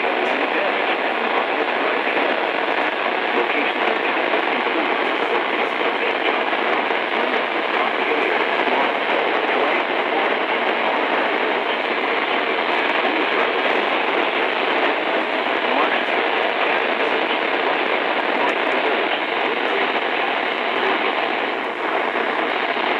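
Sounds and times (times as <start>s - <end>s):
radio static hiss: 0.0s - 22.9s.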